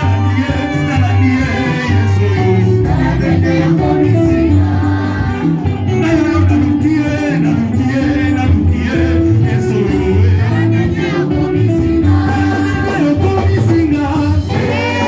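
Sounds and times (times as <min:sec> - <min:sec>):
bass line: 0:00.0 - 0:15.0
gospel singing voices: 0:00.0 - 0:15.0
steady beat: 0:00.0 - 0:15.0.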